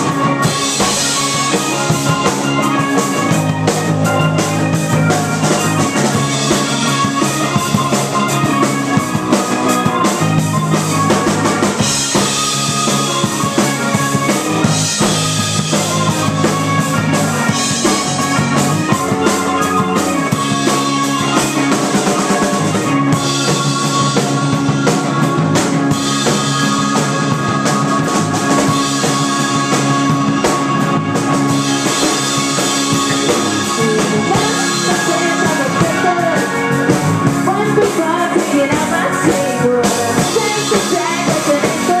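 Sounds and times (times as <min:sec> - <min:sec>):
drum kit beat: 0:00.0 - 0:42.0
electric guitar: 0:00.0 - 0:42.0
keyboard: 0:00.0 - 0:42.0.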